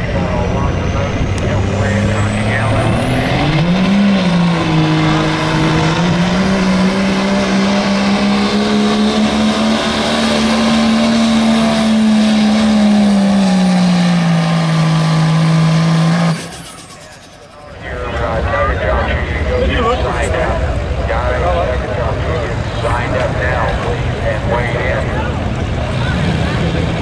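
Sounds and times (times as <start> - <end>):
diesel truck engine at full throttle: 0.0 - 27.0.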